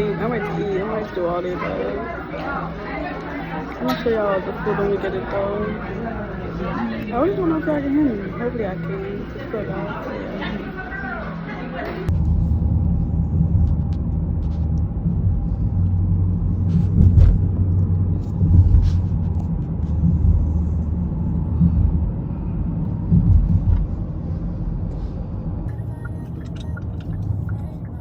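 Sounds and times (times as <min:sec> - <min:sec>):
car engine and road rumble: 0:04.7 - 0:28.0.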